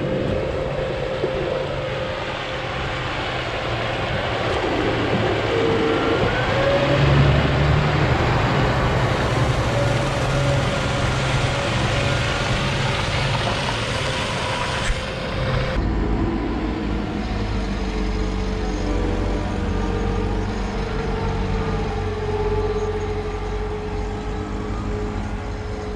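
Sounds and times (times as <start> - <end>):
wheel loader engine rumble: 0.0 - 25.9.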